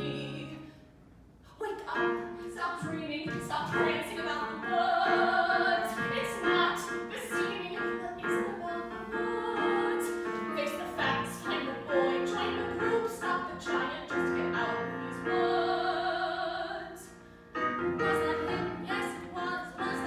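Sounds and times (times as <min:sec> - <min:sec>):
woman singing: 0:01.5 - 0:17.1, 0:18.0 - 0:20.0.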